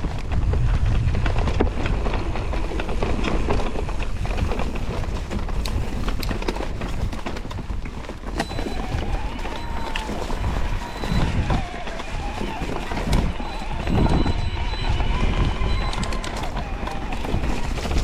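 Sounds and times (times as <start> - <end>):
bike rattling over ground: 0.0 - 18.0
bike rumbling on dirt trail: 0.0 - 18.0.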